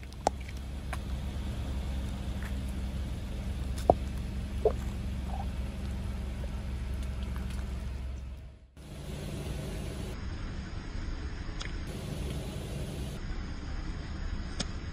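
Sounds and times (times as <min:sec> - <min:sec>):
car engine running low: 0:00.0 - 0:14.9.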